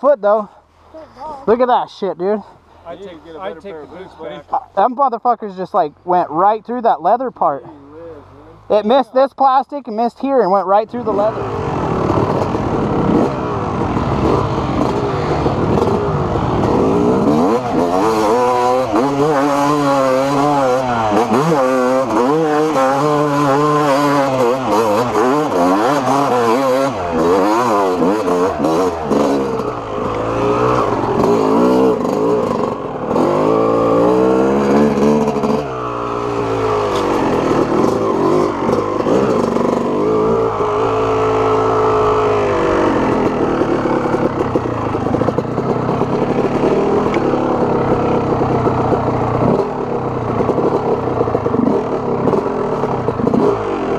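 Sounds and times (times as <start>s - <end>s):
two-stroke motorcycle engine revving: 10.7s - 53.9s.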